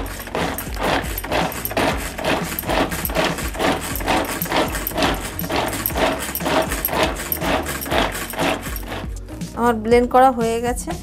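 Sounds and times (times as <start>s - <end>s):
string vegetable chopper whirring: 0.0s - 9.3s.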